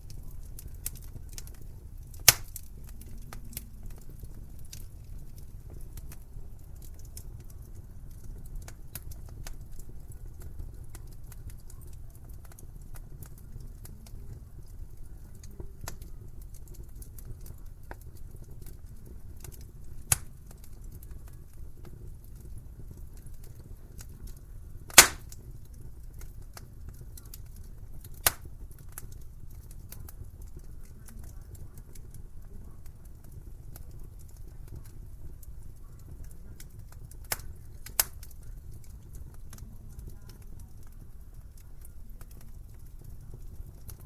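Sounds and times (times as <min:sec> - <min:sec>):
fire crackling and popping: 0:00.0 - 0:44.0
fire rumbling: 0:00.0 - 0:44.0.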